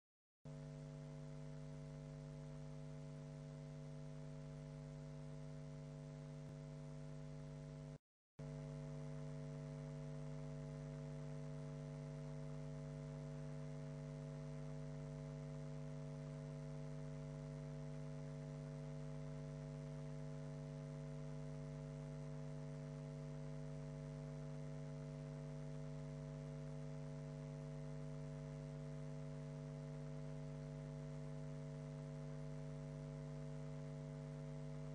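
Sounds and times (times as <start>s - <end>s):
electrical mains hum: 0.5s - 34.9s.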